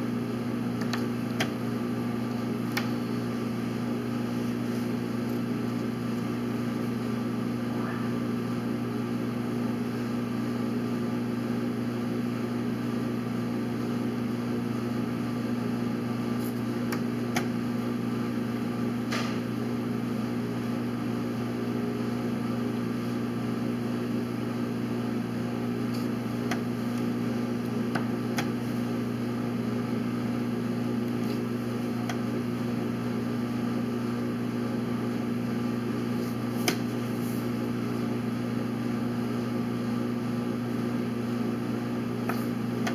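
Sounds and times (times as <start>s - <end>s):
low room hum: 0.0s - 11.3s, 12.7s - 42.9s.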